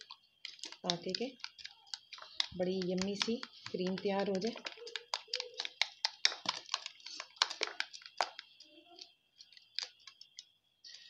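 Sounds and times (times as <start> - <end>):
metal spoon stirring in bowl: 0.0 - 10.5.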